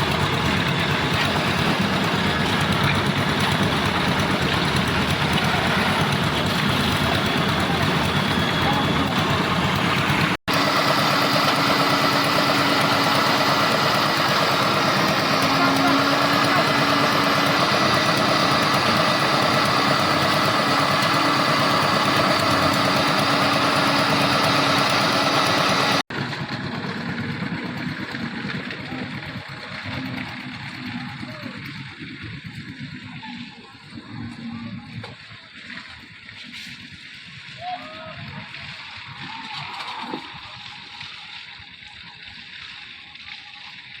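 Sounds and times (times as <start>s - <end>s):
rough machine noise: 0.0s - 37.5s
concrete mixer engine running: 0.0s - 44.0s.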